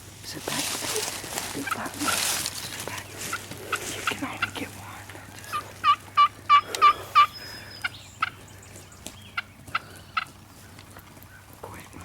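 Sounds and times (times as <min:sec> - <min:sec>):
wild turkey calling: 0:00.6 - 0:12.0.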